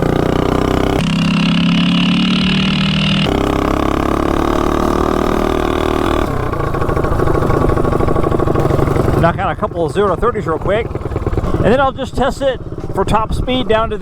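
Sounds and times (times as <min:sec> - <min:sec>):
mini bike engine running: 0:00.0 - 0:14.0.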